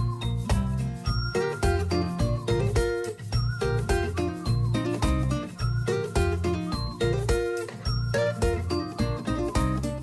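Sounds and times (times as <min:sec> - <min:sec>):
plucked guitar-like music: 0:00.0 - 0:10.0
steady bass beat: 0:00.0 - 0:10.0.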